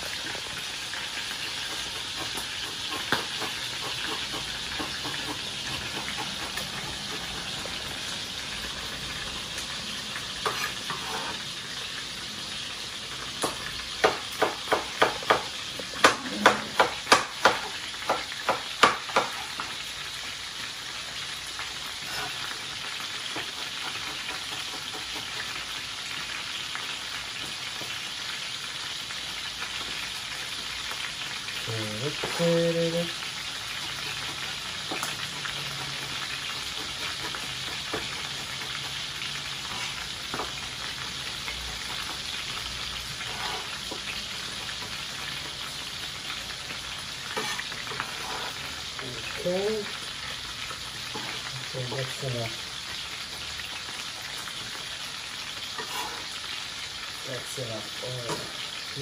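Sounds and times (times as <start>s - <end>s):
fish sizzling in a pan: 0.0s - 59.0s.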